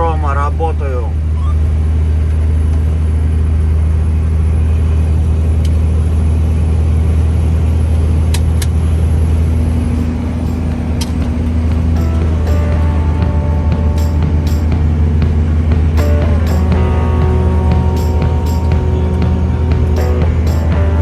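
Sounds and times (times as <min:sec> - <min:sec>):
truck diesel engine running: 0:00.0 - 0:21.0.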